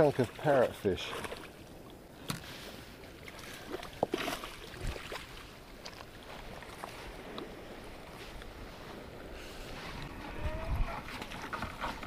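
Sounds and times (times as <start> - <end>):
fish splashing in shallow water: 0.0 - 12.0
gently moving water: 0.0 - 12.0.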